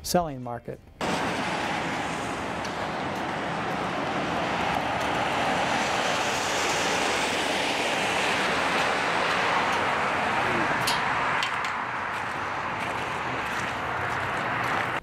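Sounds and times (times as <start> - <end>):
tyres hissing on wet road: 1.0 - 14.9.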